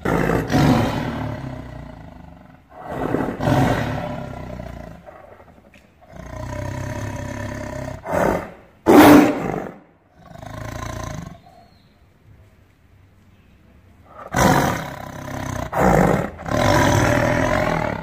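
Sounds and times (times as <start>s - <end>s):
tiger growling and snarling: 0.0s - 11.7s, 14.1s - 18.0s.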